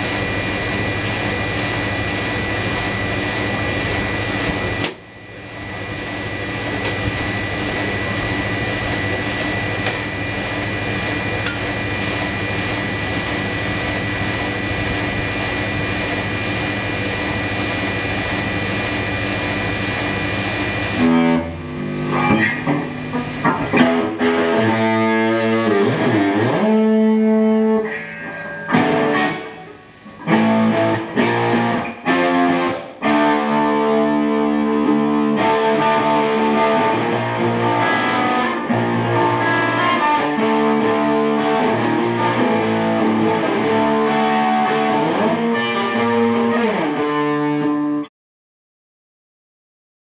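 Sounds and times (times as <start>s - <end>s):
electric guitar: 0.0s - 48.1s.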